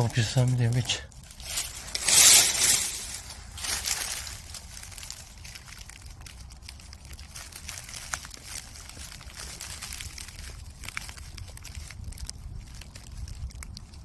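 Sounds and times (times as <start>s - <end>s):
dry leaves rustling and crackling: 0.0s - 14.0s
low steady rumble: 0.0s - 14.0s.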